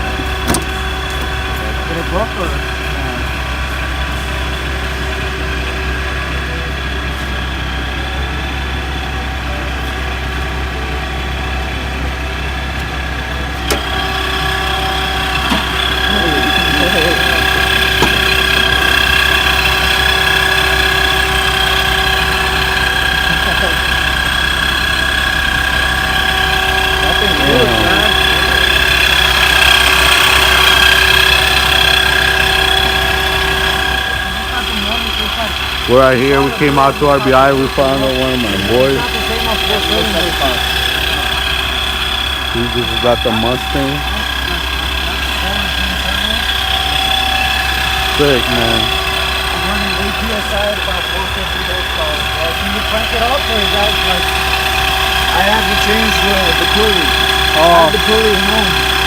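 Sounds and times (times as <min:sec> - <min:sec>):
car engine idling: 0:00.0 - 0:59.0
high-pitched whine: 0:00.0 - 0:59.0.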